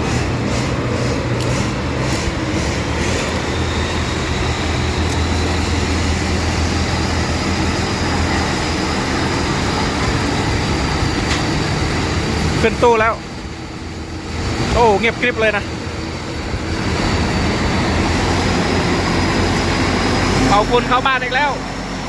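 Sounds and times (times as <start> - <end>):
harvester engine running: 0.0 - 22.0.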